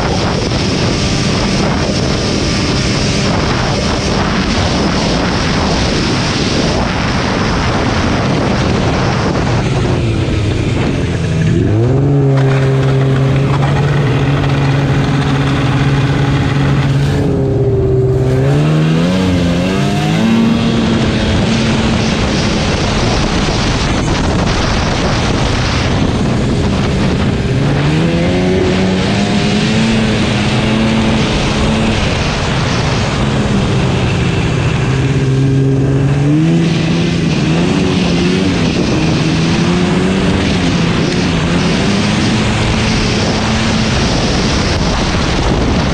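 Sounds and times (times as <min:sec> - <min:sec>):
rushing wind and track noise: 0:00.0 - 0:45.9
snowmobile engine revving: 0:00.0 - 0:45.9.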